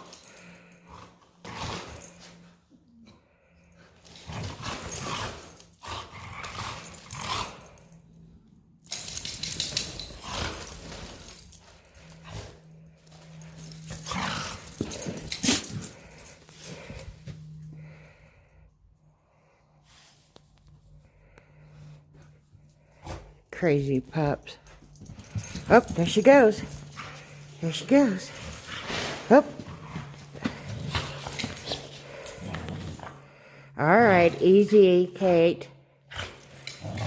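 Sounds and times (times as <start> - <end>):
dogs playing and scuffling: 0.0 - 37.0.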